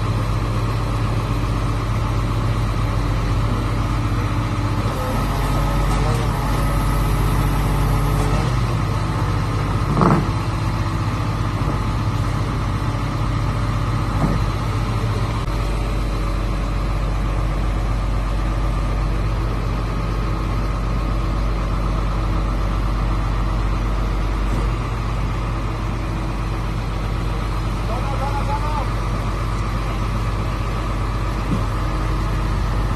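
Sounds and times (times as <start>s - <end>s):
drilling rig engine running: 0.0s - 32.9s.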